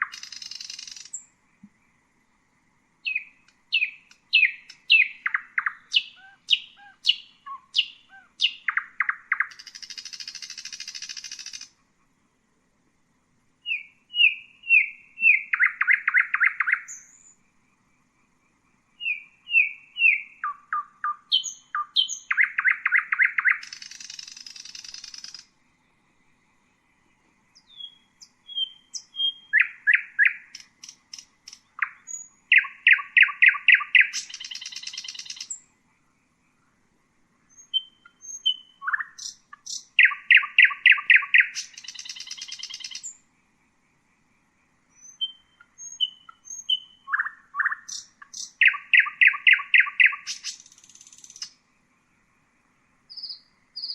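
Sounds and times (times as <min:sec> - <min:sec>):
nightingale singing: 0:00.0 - 0:02.1, 0:02.9 - 0:12.0, 0:13.6 - 0:17.9, 0:18.5 - 0:36.8, 0:37.4 - 0:53.9.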